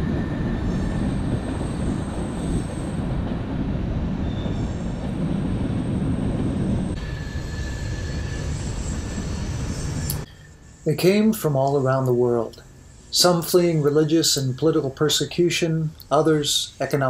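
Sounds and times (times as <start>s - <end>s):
high wheel squeal: 0.0s - 3.0s, 4.2s - 17.0s
train wheels rumbling on rails: 0.0s - 17.0s.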